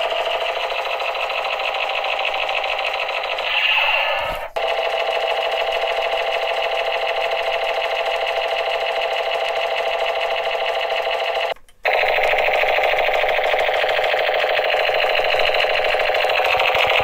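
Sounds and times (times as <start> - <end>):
toy machine gun sound effect: 0.0 - 17.0.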